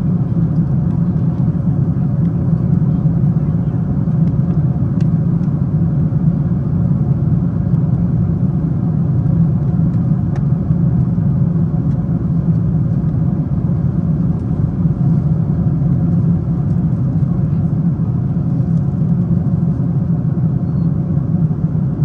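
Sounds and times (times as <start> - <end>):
airplane cabin engine roar: 0.0 - 22.0.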